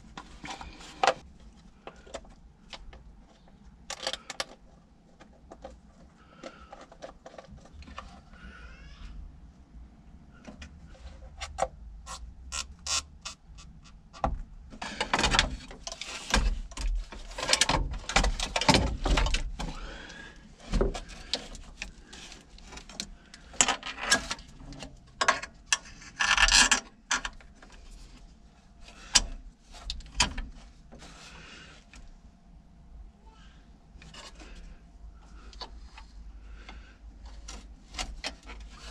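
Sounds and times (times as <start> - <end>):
parts scraping and clattering: 0.0 - 8.4, 10.4 - 32.1, 34.0 - 38.9.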